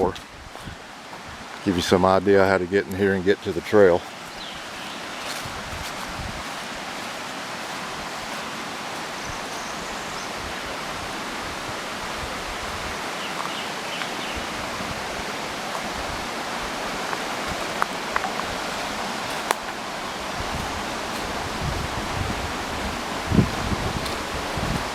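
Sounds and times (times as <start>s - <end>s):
stream rushing: 0.0s - 24.9s.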